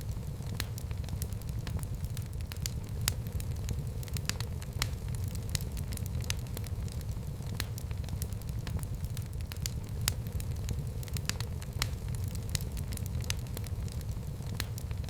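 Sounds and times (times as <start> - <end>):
fire burning in a fireplace: 0.0 - 15.0.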